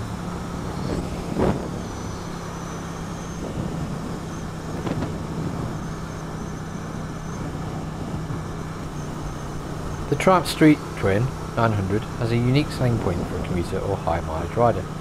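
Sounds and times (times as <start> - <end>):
wind noise: 0.0 - 10.2, 10.9 - 14.5
motorcycle engine cruising: 0.0 - 15.0.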